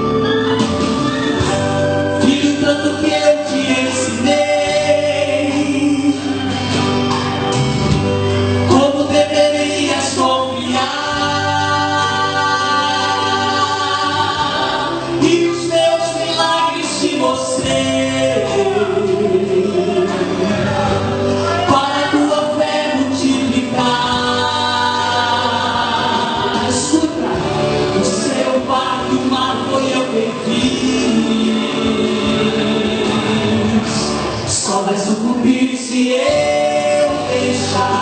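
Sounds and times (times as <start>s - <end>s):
instrumental backing with bass: 0.0s - 38.0s
voices singing gospel: 0.0s - 38.0s.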